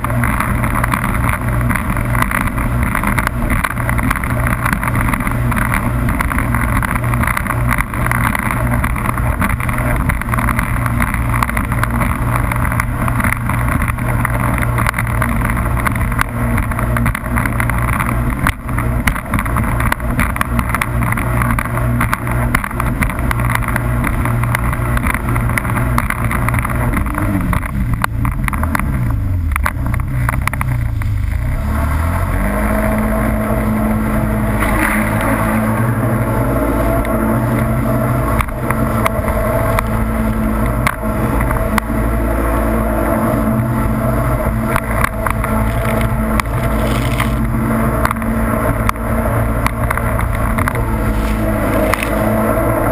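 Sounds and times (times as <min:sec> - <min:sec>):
jet ski engine running: 0:00.0 - 0:52.9.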